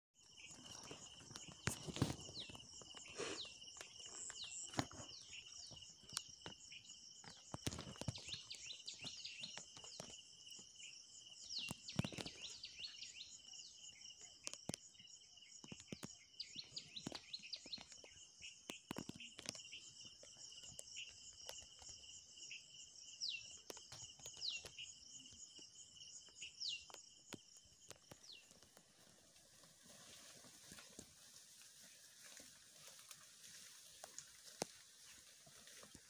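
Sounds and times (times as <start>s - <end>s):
insects trilling: 0.2s - 36.0s.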